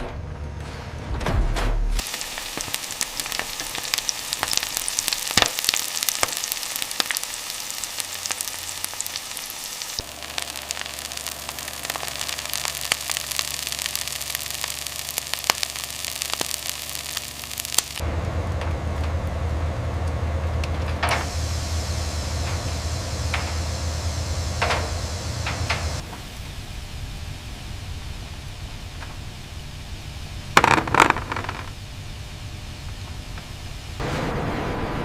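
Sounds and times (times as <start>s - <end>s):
low machine hum: 0.0s - 35.0s
sizzling and crackling with pops: 2.0s - 19.4s, 20.0s - 27.2s, 27.8s - 34.0s.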